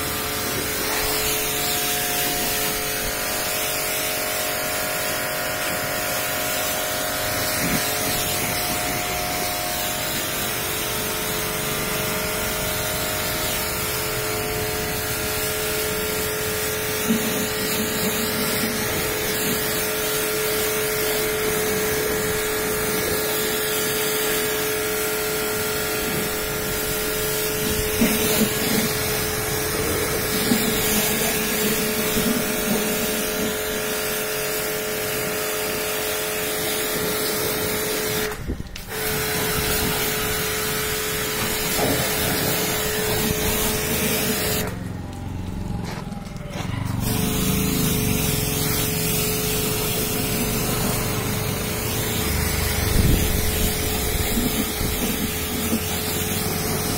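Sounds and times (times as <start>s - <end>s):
pressure washer water jet hissing: 0.0s - 45.8s, 46.6s - 56.9s.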